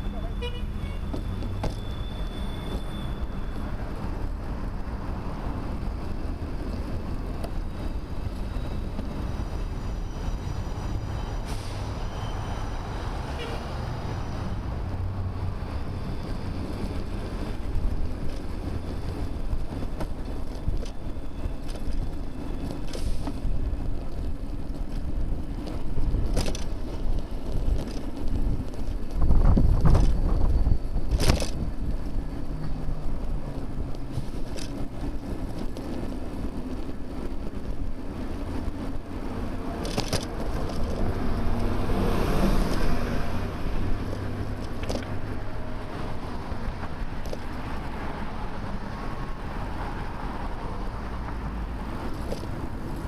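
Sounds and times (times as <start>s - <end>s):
bicycle road rumble: 0.0s - 53.0s
wind noise: 0.0s - 53.0s.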